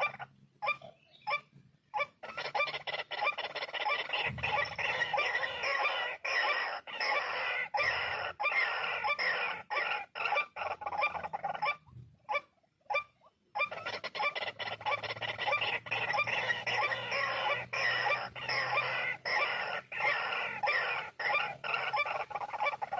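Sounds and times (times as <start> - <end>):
waterhens croaking: 0.0 - 22.9.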